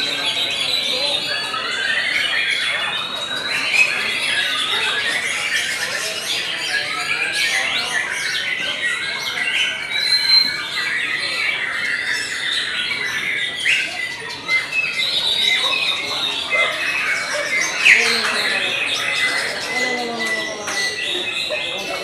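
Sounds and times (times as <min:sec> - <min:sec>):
birds singing in chorus: 0:00.0 - 0:22.0.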